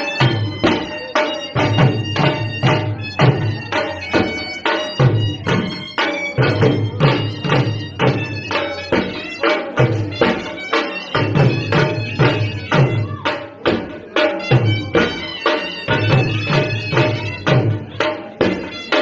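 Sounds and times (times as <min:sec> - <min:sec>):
drum beaten with a stick: 0:00.0 - 0:19.0
reedy wind instrument melody: 0:00.0 - 0:19.0.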